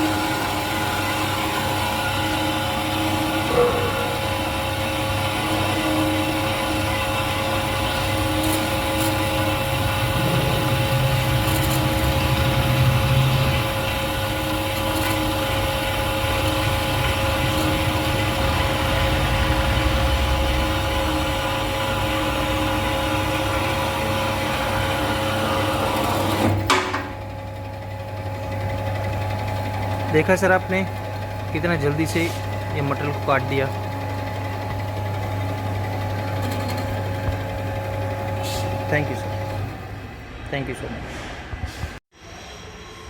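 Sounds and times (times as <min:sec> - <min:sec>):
band saw cutting metal: 0:00.0 - 0:27.2, 0:28.3 - 0:40.0.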